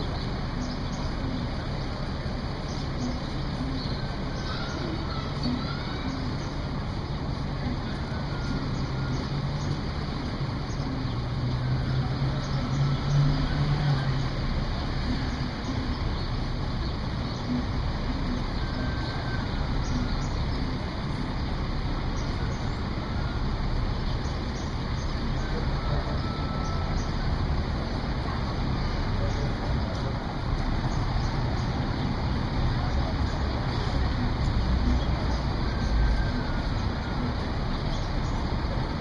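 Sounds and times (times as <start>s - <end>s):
large vehicle engine idling: 0.0s - 39.0s
street traffic: 0.0s - 39.0s.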